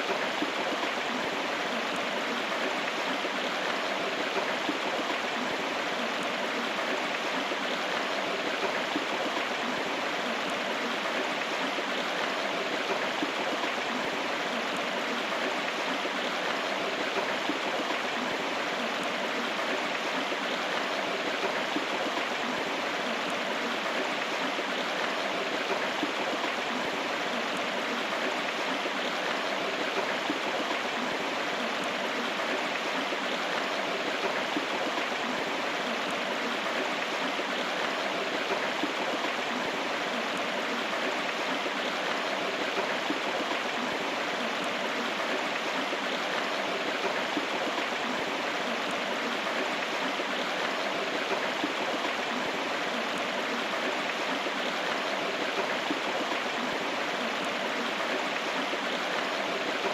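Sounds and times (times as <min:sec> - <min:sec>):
river water babbling over rocks: 0:00.0 - 0:59.9.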